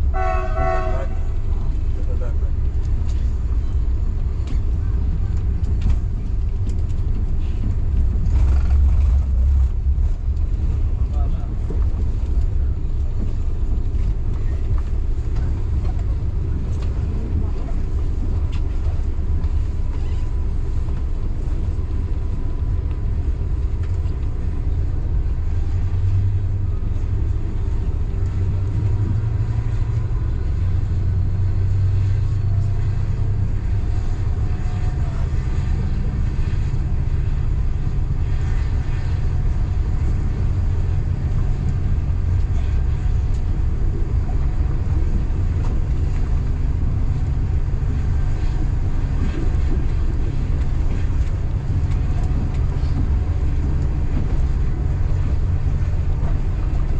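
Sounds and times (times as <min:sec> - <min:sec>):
train rumbling: 0:00.0 - 0:56.9.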